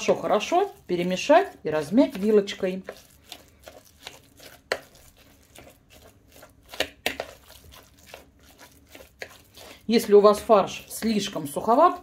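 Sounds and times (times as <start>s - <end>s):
fork scraping a bowl: 1.4s - 12.0s.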